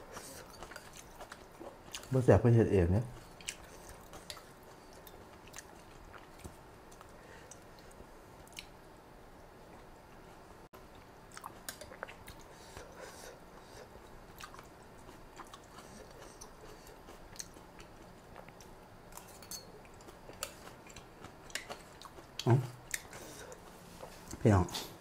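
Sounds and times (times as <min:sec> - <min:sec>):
soft chewing: 0:00.0 - 0:02.3, 0:03.0 - 0:24.4.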